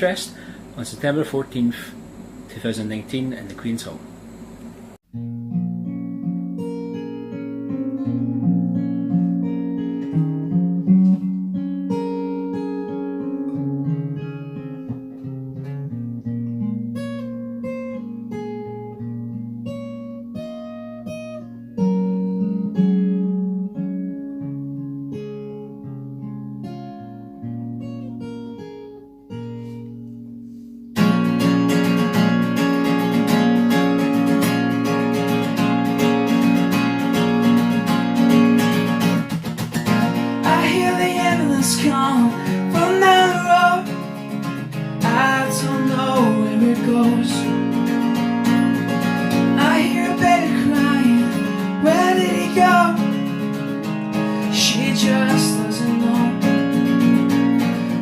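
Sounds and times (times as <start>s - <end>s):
acoustic guitar playing: 0.0s - 1.8s, 5.0s - 58.0s.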